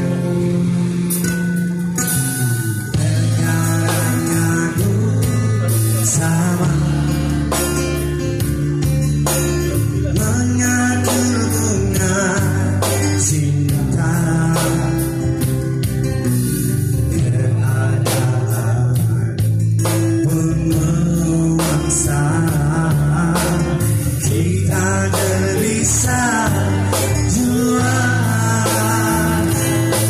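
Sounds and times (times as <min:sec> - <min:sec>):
acoustic guitar strumming: 0:00.0 - 0:30.0
man singing: 0:02.1 - 0:15.8, 0:16.9 - 0:30.0.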